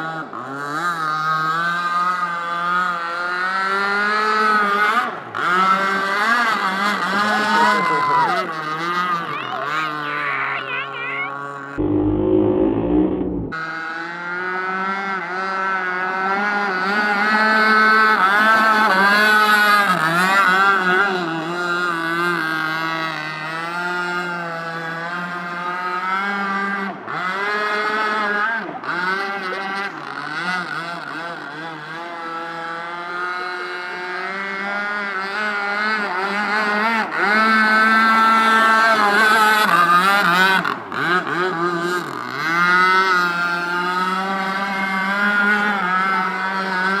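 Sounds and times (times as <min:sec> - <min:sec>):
rc boat engine running: 0:00.0 - 0:47.0.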